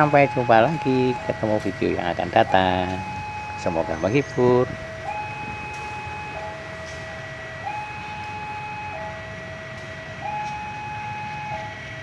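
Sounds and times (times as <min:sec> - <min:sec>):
low rumble of traffic: 0:00.0 - 0:12.0
railway rumble: 0:00.0 - 0:12.0
two-tone warning alarm: 0:00.0 - 0:12.0.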